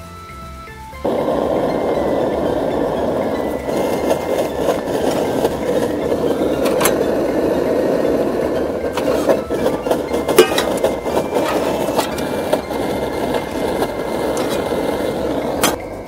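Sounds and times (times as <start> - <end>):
camping stove burning: 1.0 - 16.0.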